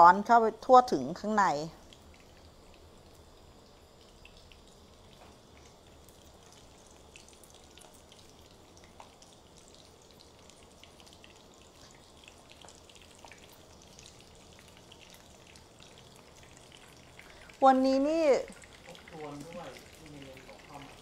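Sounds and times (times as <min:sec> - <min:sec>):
food deep-frying in hot oil: 0:00.0 - 0:21.0
oil popping and crackling: 0:01.7 - 0:21.0.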